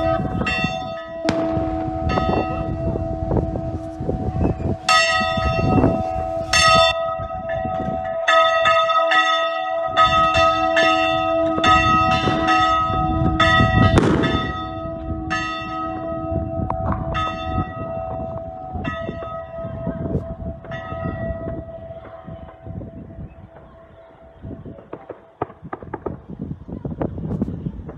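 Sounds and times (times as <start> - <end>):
church bells ringing: 0.0 - 25.4.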